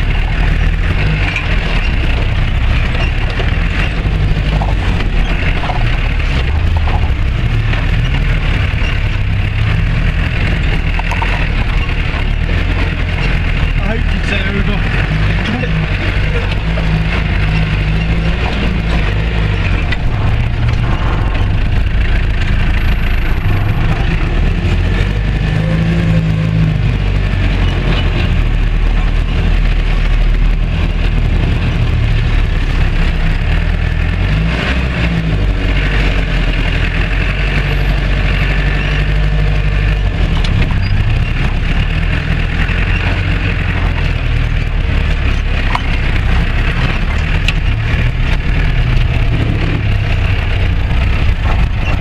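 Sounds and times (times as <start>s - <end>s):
knocks and rattles: 0.0s - 52.0s
off-road vehicle engine: 0.0s - 52.0s.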